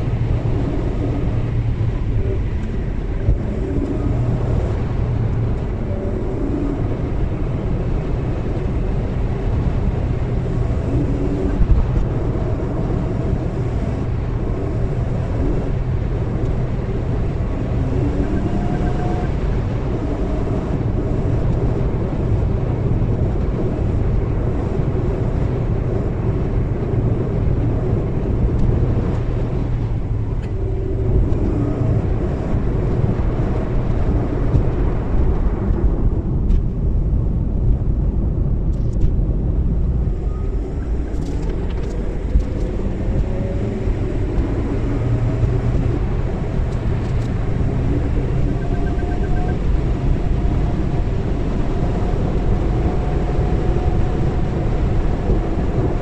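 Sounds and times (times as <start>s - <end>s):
car engine and tyre rumble: 0.0s - 56.0s
faint rising whine: 0.0s - 56.0s.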